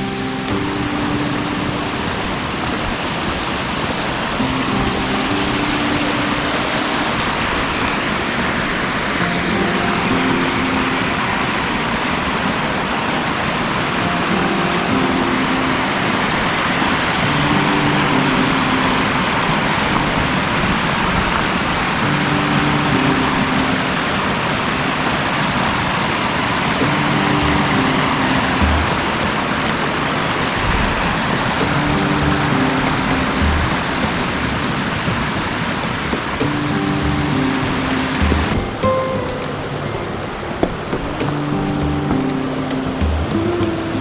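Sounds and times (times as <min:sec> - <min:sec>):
cascading mountain water: 0:00.0 - 0:44.0
plucked guitar music: 0:00.0 - 0:44.0.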